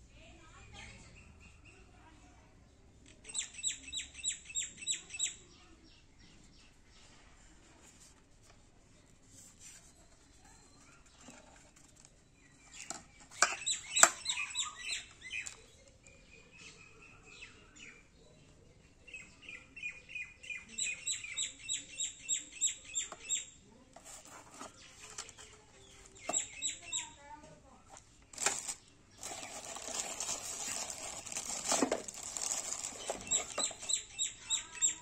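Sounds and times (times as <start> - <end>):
bird chirping: 3.2 - 7.2, 9.8 - 27.4, 28.3 - 35.0.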